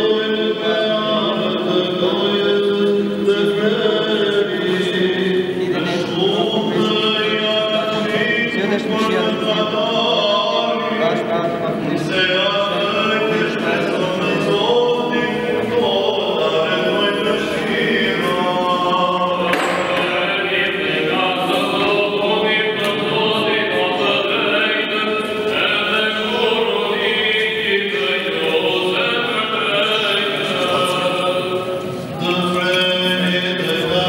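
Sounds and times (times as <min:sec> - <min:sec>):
choir singing liturgical chant: 0:00.0 - 0:34.0.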